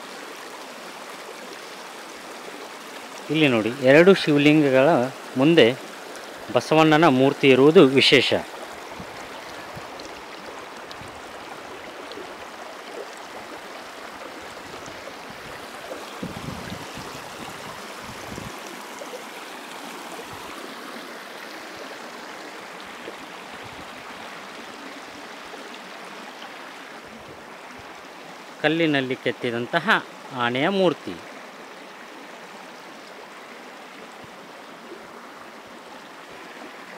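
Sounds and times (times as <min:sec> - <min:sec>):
river water flowing: 0:00.0 - 0:36.9.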